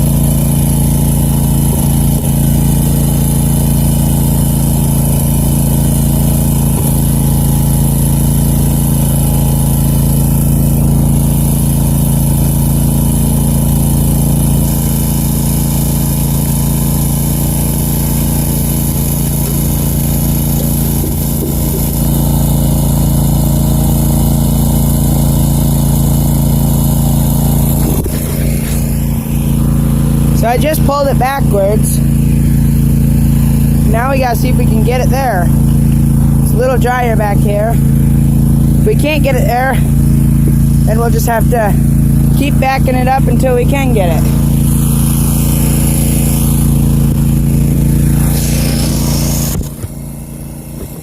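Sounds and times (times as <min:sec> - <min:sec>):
lawn mower engine running: 0:00.0 - 0:51.0.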